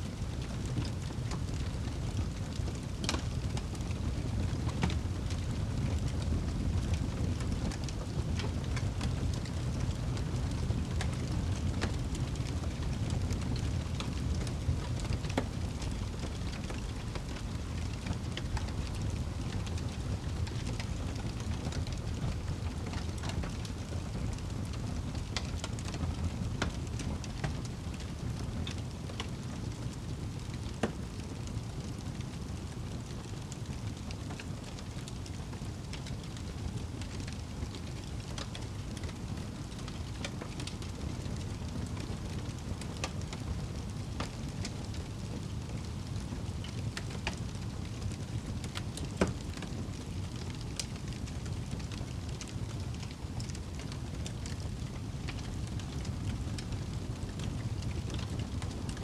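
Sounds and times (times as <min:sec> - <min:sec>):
wood fire crackling: 0:00.1 - 0:59.0.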